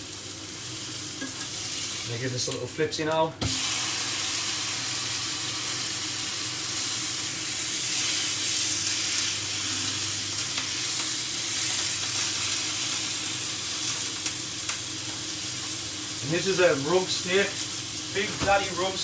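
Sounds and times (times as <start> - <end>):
steak sizzling in a pan: 0.0 - 2.7, 3.4 - 19.0.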